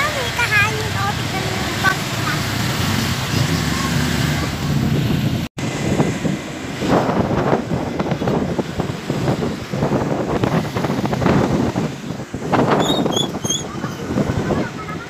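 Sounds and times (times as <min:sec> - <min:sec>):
road noise: 0:00.0 - 0:15.0
scooter engine: 0:00.0 - 0:15.0
wind buffeting microphone: 0:00.0 - 0:15.0.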